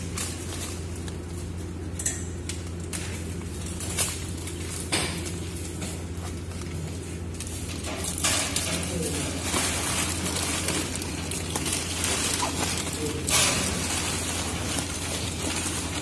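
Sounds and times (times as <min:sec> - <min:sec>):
foil insulation crinkling under hand: 0:00.0 - 0:16.0
low machinery hum: 0:00.0 - 0:16.0.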